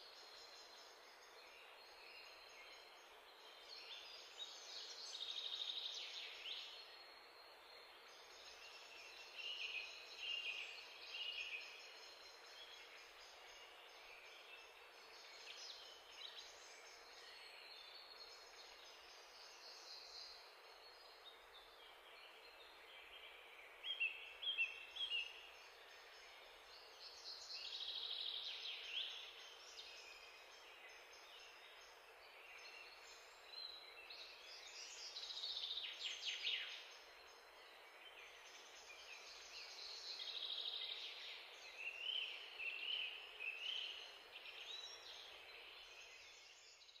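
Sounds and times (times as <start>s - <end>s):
songbirds chirping and trilling: 0.0s - 47.0s.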